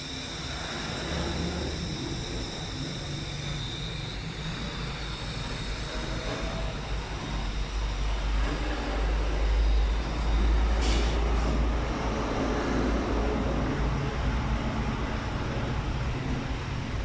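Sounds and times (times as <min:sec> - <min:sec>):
air compressor humming: 0:00.0 - 0:17.0.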